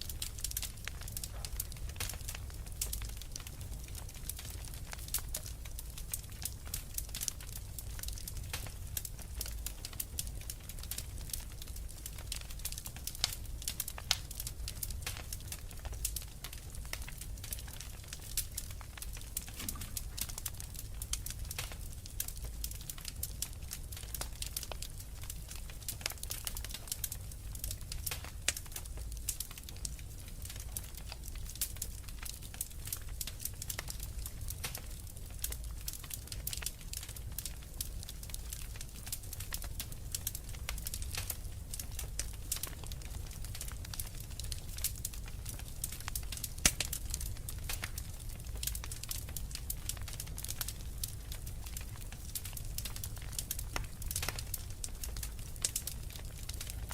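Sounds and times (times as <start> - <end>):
low fire rumble: 0.0 - 56.9
wood fire crackling: 0.0 - 56.9.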